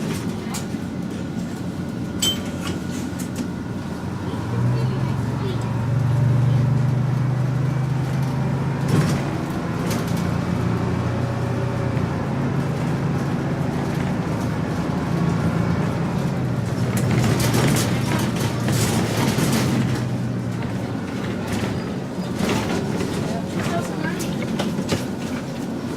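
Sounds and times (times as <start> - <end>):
bus engine humming: 0.0 - 25.9.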